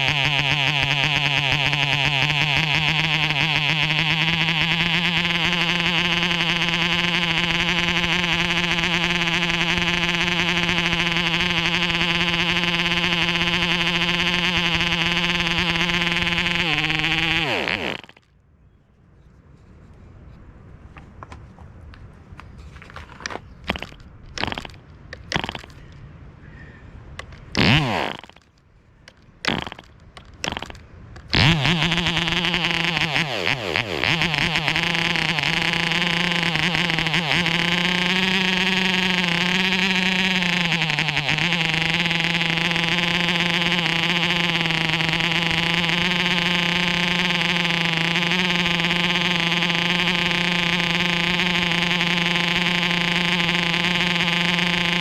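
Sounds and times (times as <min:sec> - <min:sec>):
model engine starting and running: 0:00.0 - 0:18.3, 0:23.6 - 0:25.8, 0:27.1 - 0:55.0.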